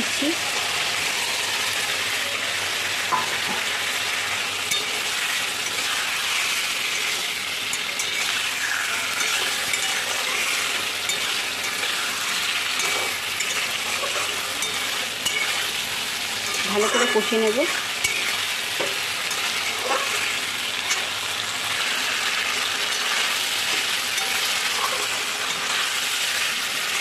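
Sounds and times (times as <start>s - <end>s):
food sizzling in oil: 0.0s - 27.0s
metal spatula scraping pan: 3.2s - 27.0s.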